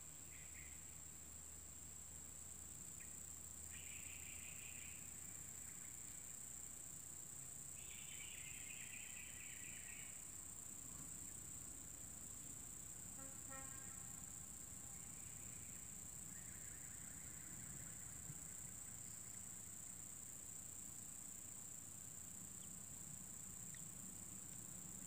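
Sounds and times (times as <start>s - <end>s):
faint insect drone: 0.0s - 25.0s.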